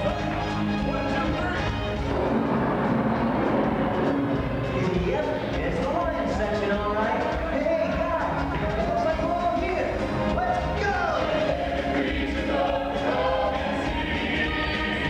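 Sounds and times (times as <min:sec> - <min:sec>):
choir singing with backing music: 0:00.0 - 0:15.0.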